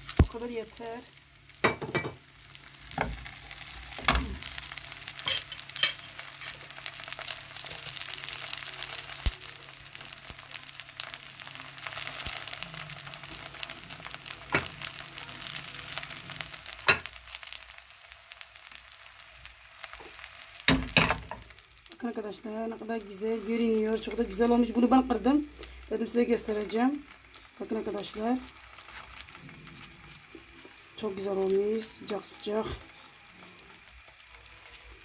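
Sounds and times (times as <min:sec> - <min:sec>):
pastry sizzling in oil: 0:00.0 - 0:35.0.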